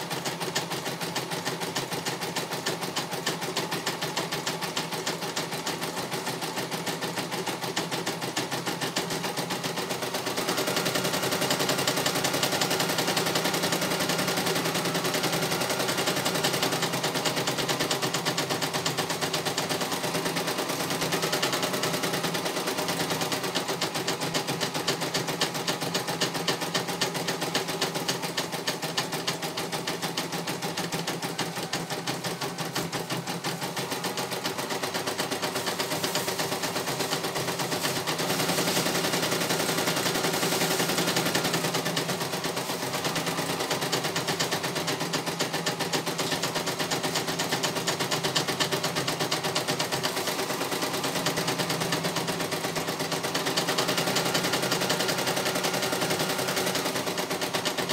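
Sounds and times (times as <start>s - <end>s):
embroidery machine stitching: 0.0s - 57.9s.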